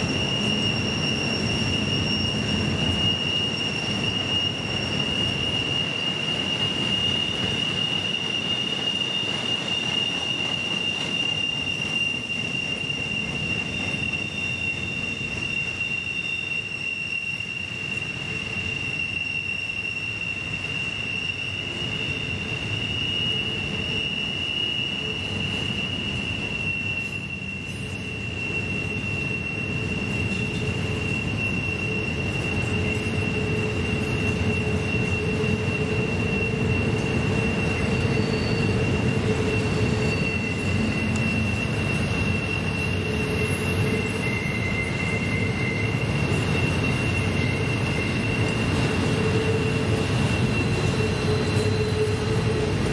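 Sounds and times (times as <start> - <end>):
train wheels squealing: 0.0 - 52.9
wheels rumbling on rails: 0.0 - 52.9.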